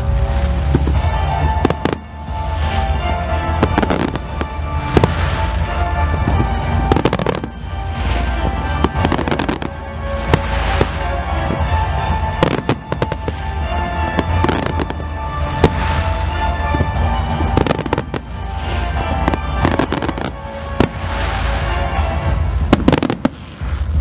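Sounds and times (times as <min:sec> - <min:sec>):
fireworks bursting: 0:00.0 - 0:24.0
music playing: 0:00.0 - 0:24.0.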